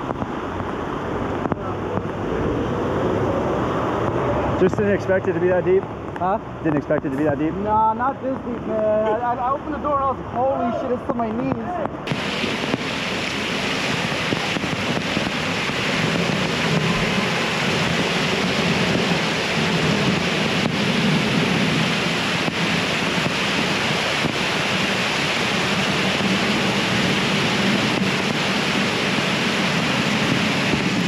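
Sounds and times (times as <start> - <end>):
floodwater rushing: 0.0 - 6.6, 12.0 - 31.0.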